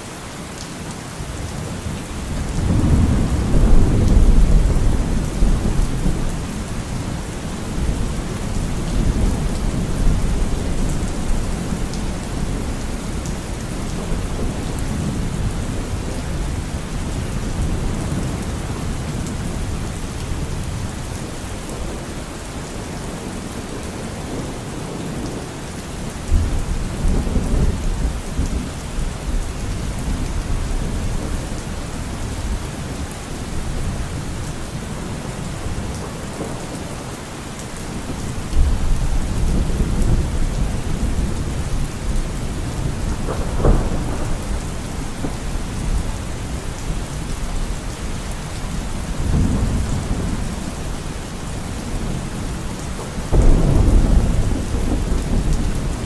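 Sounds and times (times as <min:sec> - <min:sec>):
steady rain: 0:00.0 - 0:56.0
low rumbles of thunder: 0:01.8 - 0:22.0, 0:26.3 - 0:36.8, 0:37.8 - 0:56.0.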